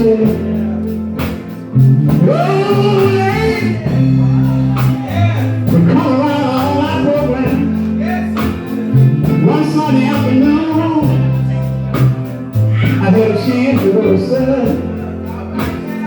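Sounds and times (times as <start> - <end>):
gospel band playing: 0.0 - 16.0
person singing: 0.0 - 16.0.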